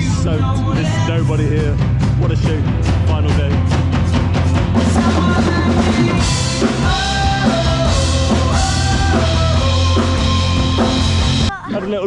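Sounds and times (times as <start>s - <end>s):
drum kit beat: 0.0s - 11.6s
guitar: 0.0s - 11.6s.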